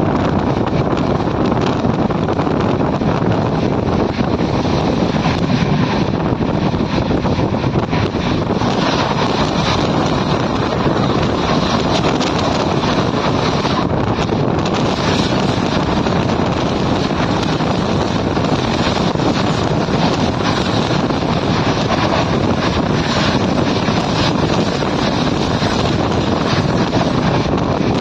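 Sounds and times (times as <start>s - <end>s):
train rushing at speed: 0.0s - 28.0s
wind buffeting microphone: 0.0s - 28.0s.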